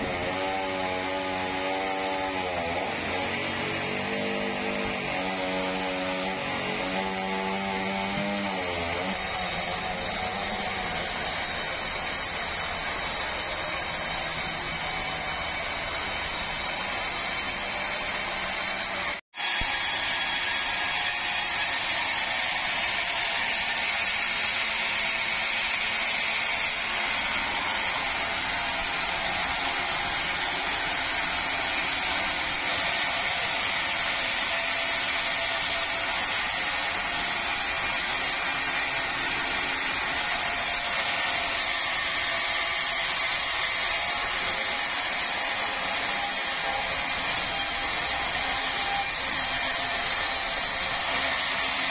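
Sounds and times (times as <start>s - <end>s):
sawmill saw cutting wood: 0.0s - 51.9s.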